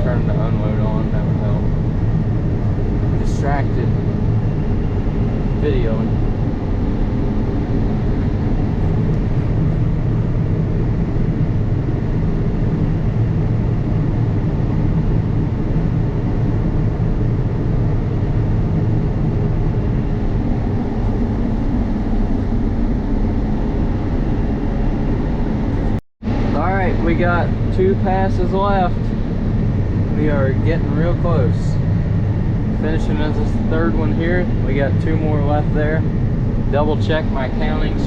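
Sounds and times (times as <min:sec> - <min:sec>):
combine harvester drone: 0:00.0 - 0:38.0.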